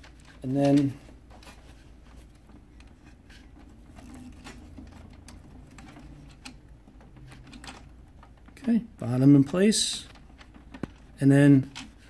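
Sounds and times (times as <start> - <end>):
plastic clicks and scrapes: 0.0 - 8.7, 9.5 - 12.0.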